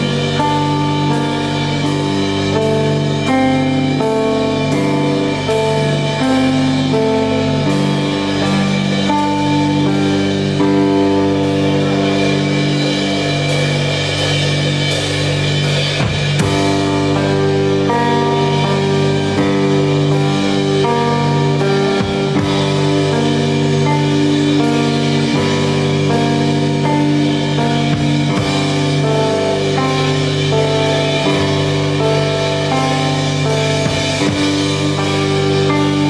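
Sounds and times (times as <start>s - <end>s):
drum kit steady beat: 0.0s - 36.0s
sustained pitched notes: 0.0s - 36.0s.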